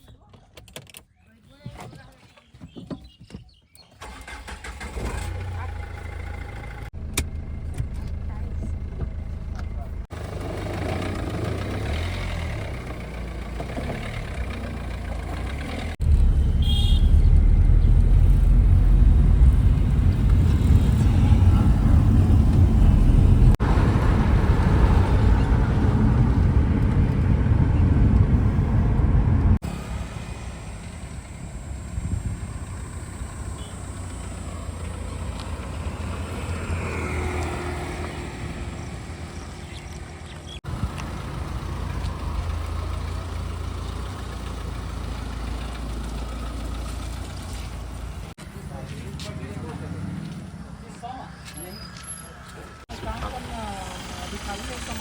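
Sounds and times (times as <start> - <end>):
diesel engine rumbling: 4.0 - 55.0.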